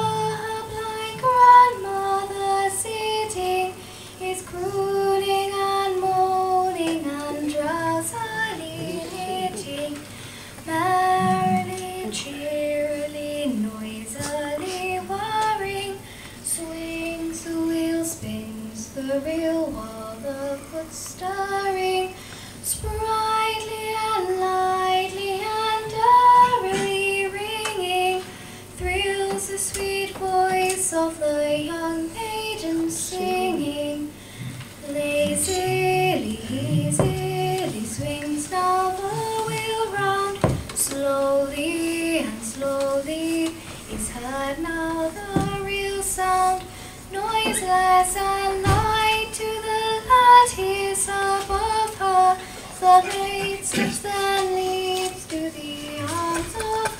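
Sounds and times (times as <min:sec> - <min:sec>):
girl singing unaccompanied: 0:00.0 - 0:56.9.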